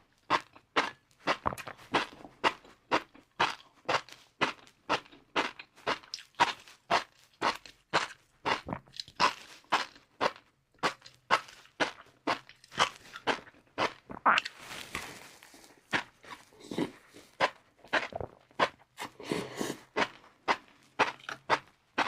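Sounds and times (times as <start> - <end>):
person chewing crunchy noodles: 0.1 - 22.0.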